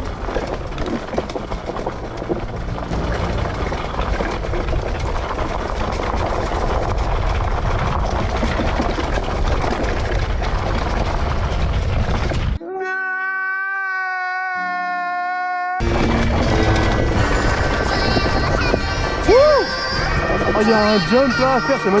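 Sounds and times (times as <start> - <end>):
dirt bike engine: 0.0 - 12.6, 15.8 - 21.7
wind noise on microphone: 0.0 - 12.6, 15.8 - 21.7.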